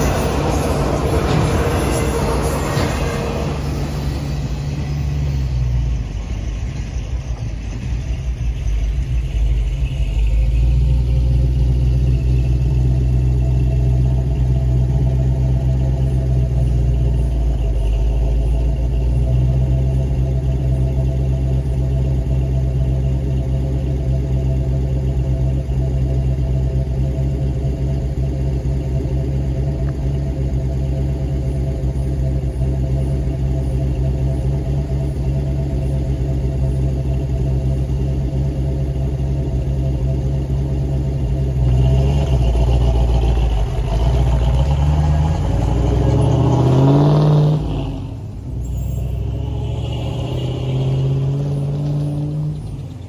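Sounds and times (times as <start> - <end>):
large engine idling: 0.0 - 46.9, 47.5 - 50.4, 52.4 - 53.0.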